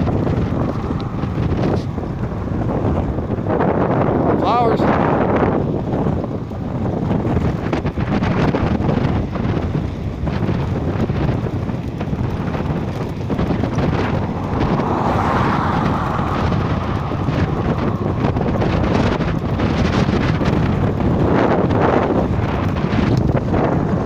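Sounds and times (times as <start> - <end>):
heavy wind buffeting microphone: 0.0 - 24.0.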